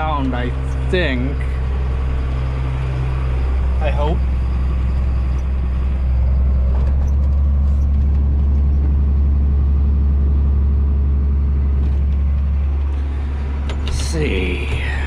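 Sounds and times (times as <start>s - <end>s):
combine engine and machinery drone: 0.0s - 15.0s.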